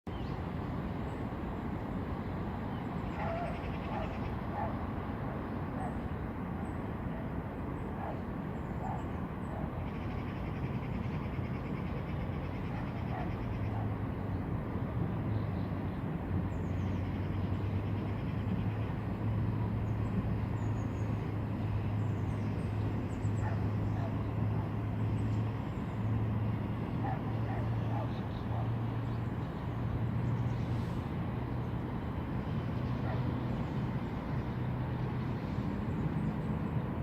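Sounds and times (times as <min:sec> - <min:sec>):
low engine hum: 0:00.1 - 0:37.0.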